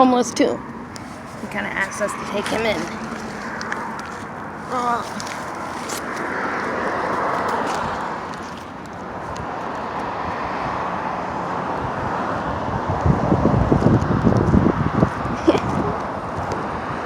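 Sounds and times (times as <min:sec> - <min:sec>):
low gusty rumbling: 0:00.0 - 0:17.0
traffic noise: 0:00.0 - 0:17.0.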